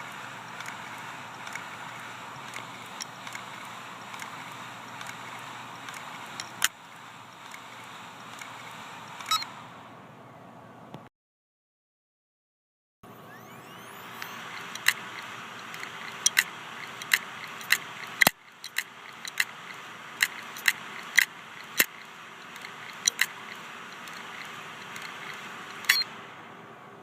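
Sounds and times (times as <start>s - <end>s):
hard drive heads clicking: 0.0s - 9.6s, 14.1s - 26.2s
hard drive whirring: 0.0s - 11.1s, 13.0s - 27.0s.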